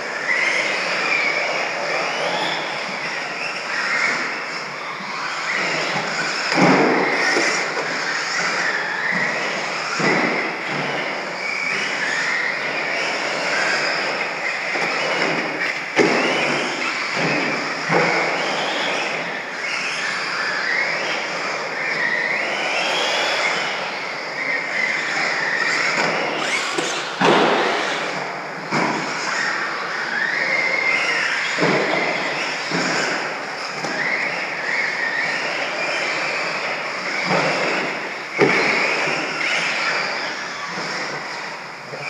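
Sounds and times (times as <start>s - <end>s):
toy truck motors whining: 0.0s - 42.0s.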